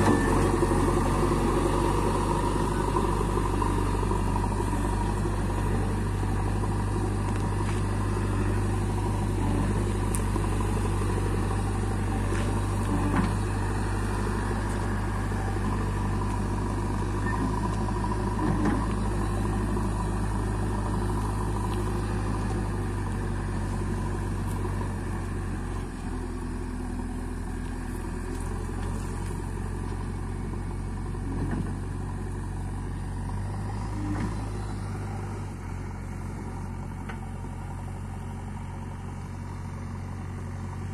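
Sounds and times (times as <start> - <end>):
backhoe digging soil: 0.0 - 40.9
diesel engine running: 0.0 - 40.9.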